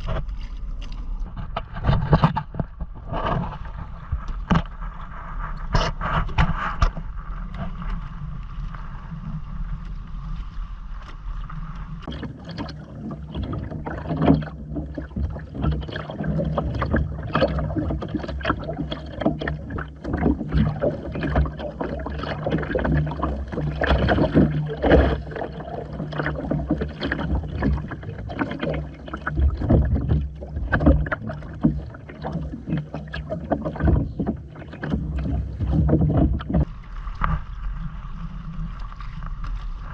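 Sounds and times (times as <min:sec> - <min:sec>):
water slapping against hull: 0:00.0 - 0:39.9.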